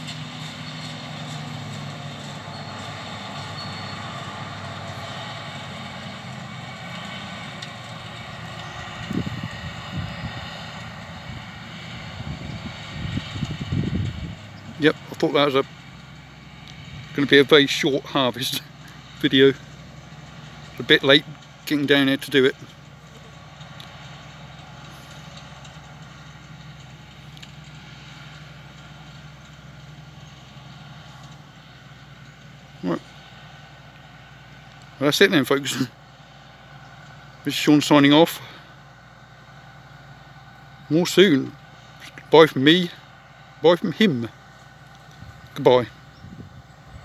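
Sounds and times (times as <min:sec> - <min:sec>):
distant combine harvester engine hum: 0:00.0 - 0:47.0
low rumbles: 0:00.0 - 0:47.0.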